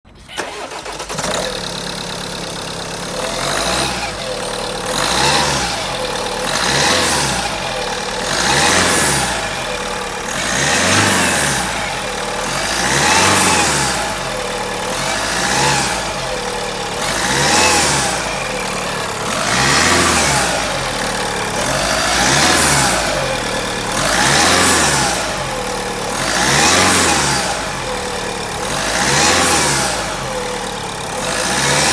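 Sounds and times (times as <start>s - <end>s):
engine revving: 0.1s - 31.9s.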